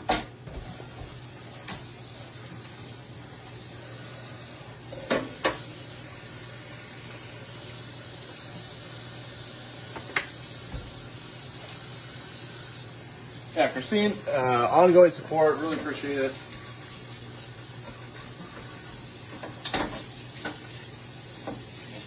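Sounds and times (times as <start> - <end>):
sausages sizzling in a frying pan: 0.6 - 22.0.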